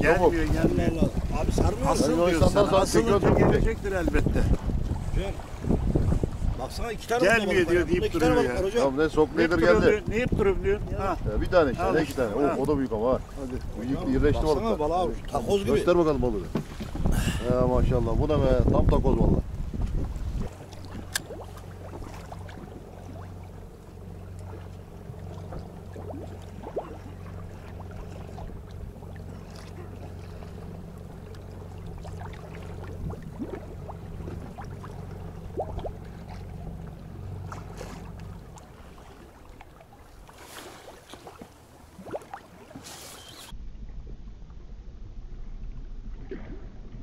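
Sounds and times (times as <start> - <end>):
boat engine idling: 0.0 - 43.6.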